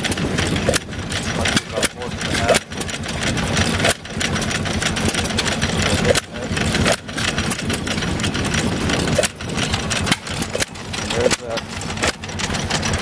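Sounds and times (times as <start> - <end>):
stationary engine clattering: 0.0 - 13.0.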